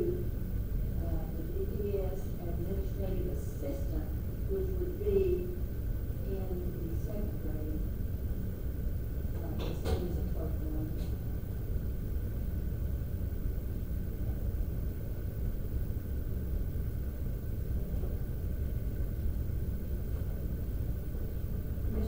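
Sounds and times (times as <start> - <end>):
faint steady hum: 0.0 - 22.0
low background rumble: 0.0 - 22.0.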